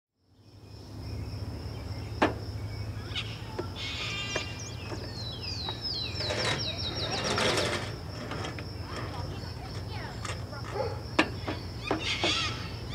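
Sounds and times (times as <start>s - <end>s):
birds chirping: 0.4s - 12.9s
high insect buzz: 0.8s - 12.9s.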